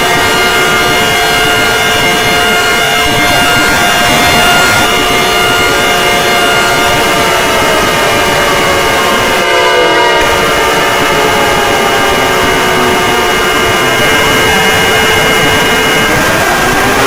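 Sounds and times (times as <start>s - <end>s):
emergency alert alarm tones: 0.0s - 17.0s
harsh noise: 0.0s - 17.0s.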